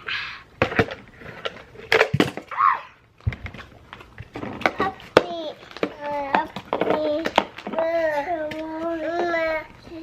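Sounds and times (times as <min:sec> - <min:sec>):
hard objects knocking and clattering: 0:00.6 - 0:02.6, 0:03.2 - 0:09.5.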